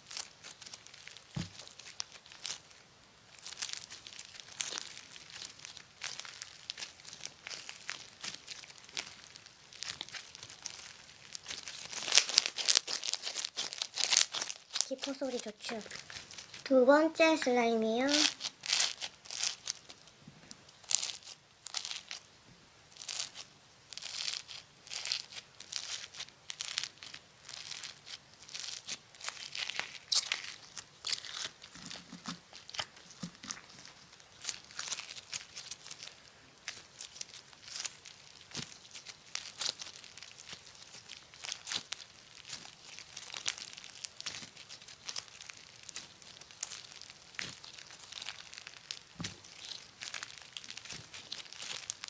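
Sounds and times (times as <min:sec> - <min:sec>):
sticky slime tearing: 0:00.0 - 0:17.5, 0:18.1 - 0:20.1, 0:20.7 - 0:22.3, 0:22.9 - 0:52.0
foam slime crackling and popping: 0:00.0 - 0:52.0.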